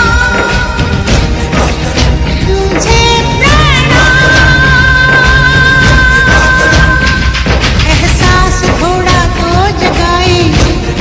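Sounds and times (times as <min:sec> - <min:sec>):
song with singing over a beat: 0:00.0 - 0:11.0.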